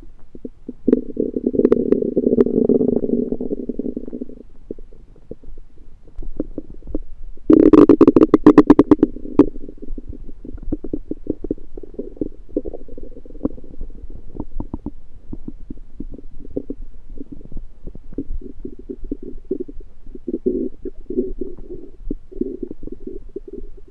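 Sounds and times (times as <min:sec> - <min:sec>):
stomach gurgling and rumbling: 0:00.0 - 0:23.9.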